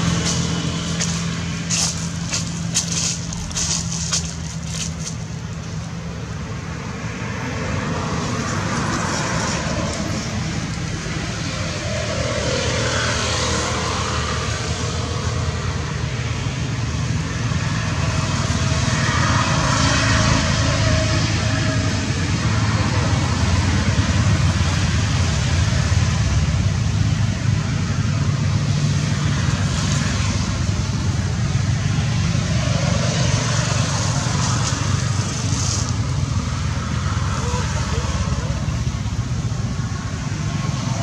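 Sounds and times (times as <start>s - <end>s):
vehicle engine and traffic noise: 0.0s - 41.0s.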